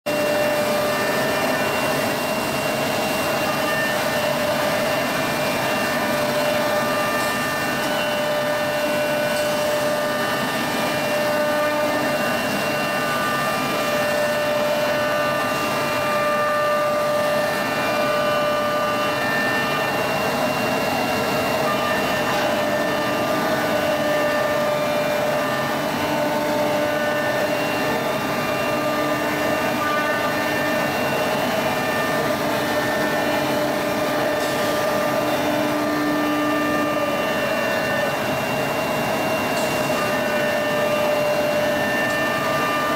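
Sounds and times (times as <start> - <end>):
machine whine: 0.1 - 42.9.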